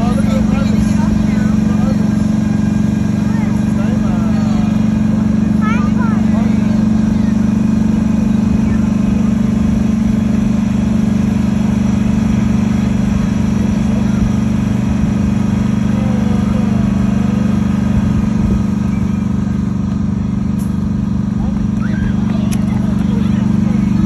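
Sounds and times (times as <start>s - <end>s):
train engine humming: 0.0s - 24.0s.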